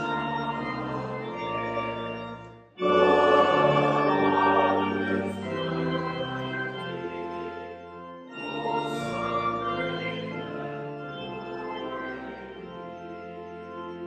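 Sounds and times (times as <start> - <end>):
church choir singing: 0.0 - 14.0
organ: 0.0 - 14.0.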